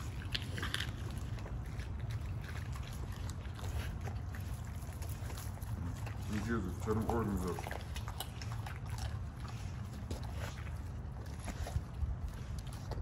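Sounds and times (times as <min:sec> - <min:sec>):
dog chewing and licking: 0:00.0 - 0:13.0.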